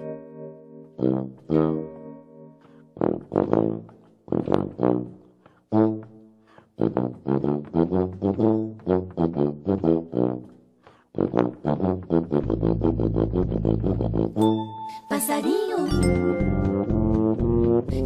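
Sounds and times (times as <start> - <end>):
tuba playing bouncy melody: 0.0 - 14.9, 15.8 - 18.0.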